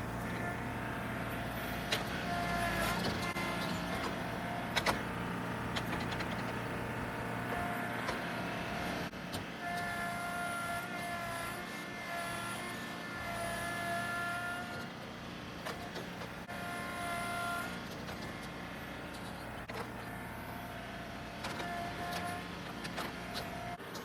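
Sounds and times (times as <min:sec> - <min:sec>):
tractor engine under load: 0:00.0 - 0:09.6, 0:14.0 - 0:24.0.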